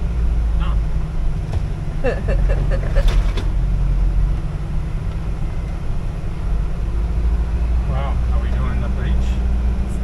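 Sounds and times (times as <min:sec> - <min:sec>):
truck cab engine drone: 0:00.0 - 0:10.0.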